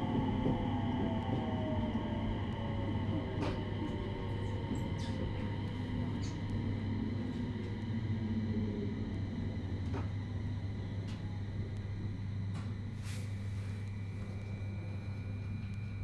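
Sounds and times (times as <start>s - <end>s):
electric train running hum: 0.0s - 16.0s.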